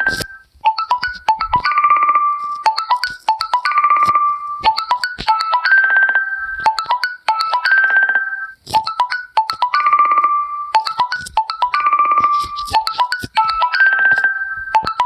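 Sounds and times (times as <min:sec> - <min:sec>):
marimba ringtone melody: 0:00.0 - 0:15.0.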